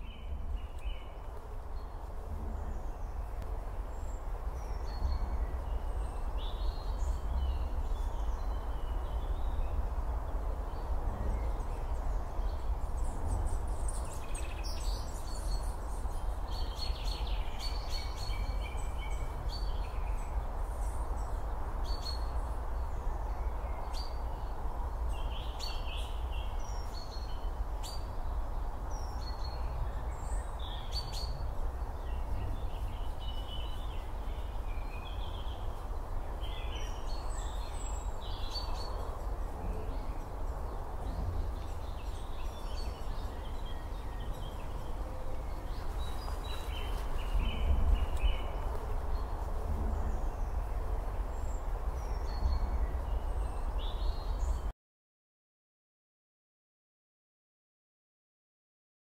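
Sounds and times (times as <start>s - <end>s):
small birds chirping: 0.0s - 54.7s.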